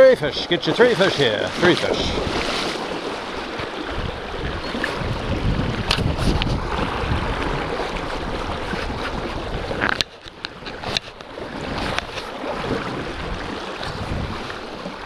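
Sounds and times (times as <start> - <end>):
river rushing over stones: 0.0 - 15.0
wind on microphone: 1.0 - 15.0.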